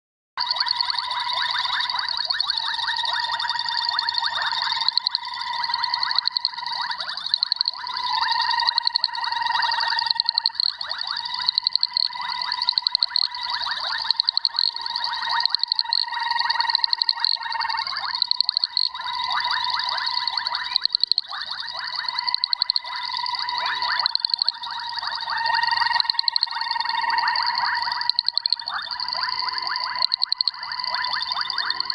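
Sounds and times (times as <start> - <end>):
frog clicking call: 0.4 - 1.0, 1.6 - 18.9, 19.8 - 23.0, 23.8 - 26.8, 27.4 - 29.2, 29.8 - 31.9.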